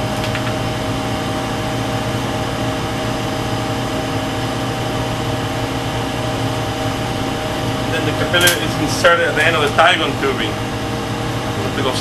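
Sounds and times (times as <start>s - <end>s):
ventilation hum and air rush: 0.0s - 12.0s.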